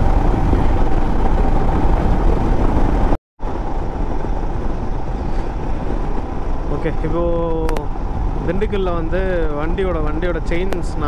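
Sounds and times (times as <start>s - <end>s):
motorcycle engine at highway speed: 0.0s - 11.0s
wind noise on microphone: 0.0s - 11.0s.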